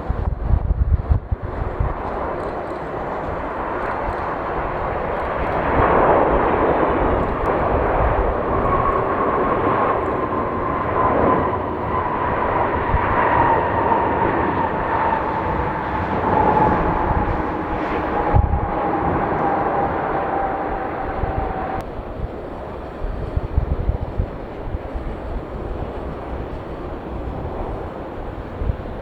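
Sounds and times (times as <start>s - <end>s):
jet engines roaring past: 0.0s - 29.0s
wind rumble on microphone: 0.0s - 29.0s.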